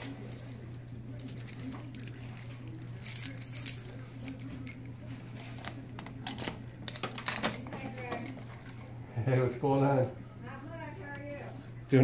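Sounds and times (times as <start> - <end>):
faint voices: 0.0 - 12.0
low room hum: 0.0 - 12.0.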